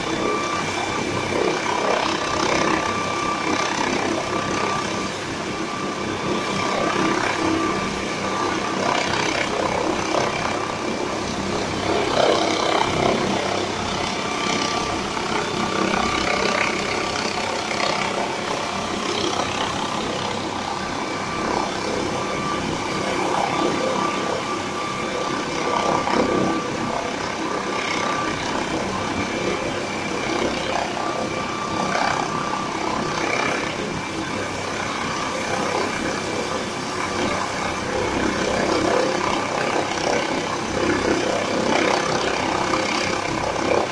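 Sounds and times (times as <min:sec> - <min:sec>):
helicopter turbine engines running: 0:00.0 - 0:43.9.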